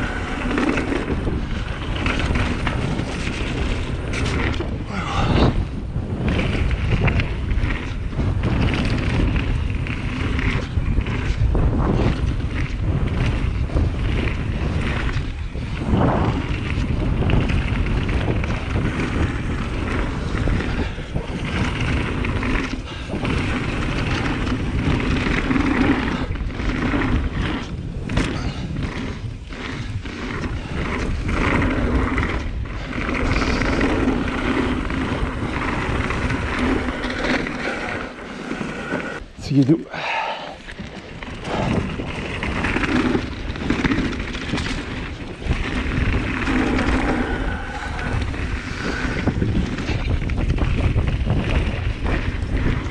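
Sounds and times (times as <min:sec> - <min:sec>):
bike knocking and rattling: 0:00.0 - 0:39.5, 0:40.6 - 0:52.9
bike tyres rumbling on dirt: 0:00.0 - 0:52.9
wind buffeting microphone: 0:00.0 - 0:52.9.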